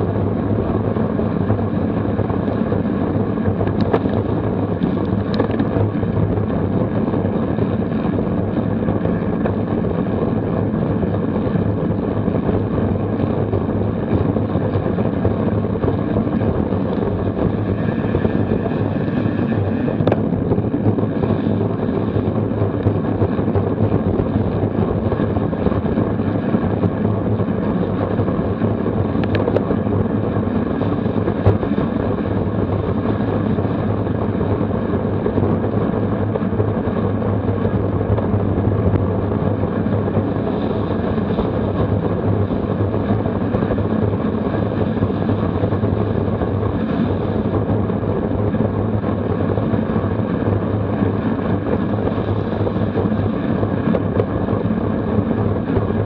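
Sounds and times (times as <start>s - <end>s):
bicycle tyres on wet road: 0.0s - 56.0s
wind rushing over microphone: 0.0s - 56.0s.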